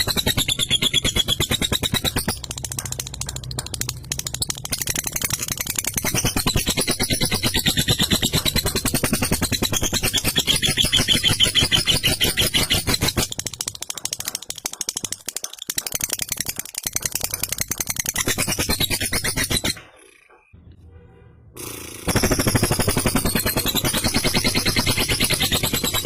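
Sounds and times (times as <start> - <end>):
lovebird rattling chatter: 0.0 - 20.5, 21.6 - 26.0.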